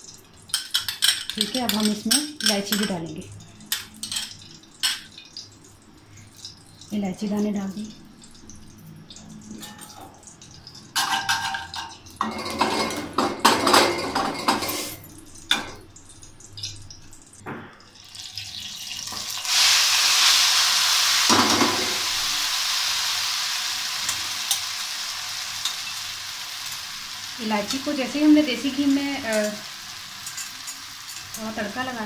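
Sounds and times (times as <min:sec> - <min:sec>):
loud sizzle in hot oil: 0:00.0 - 0:13.2, 0:14.0 - 0:32.0.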